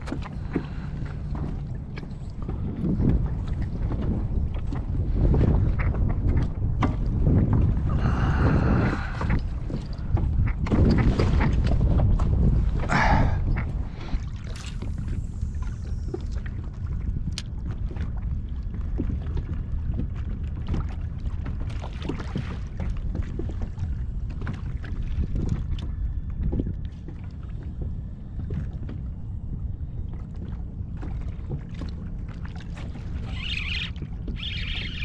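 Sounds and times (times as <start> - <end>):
steady low rumble: 0.0 - 35.0
water lapping against plastic hull: 0.0 - 35.0.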